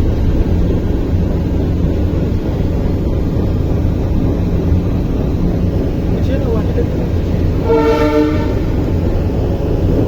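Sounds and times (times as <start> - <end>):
passenger train rumbling: 0.0 - 10.0.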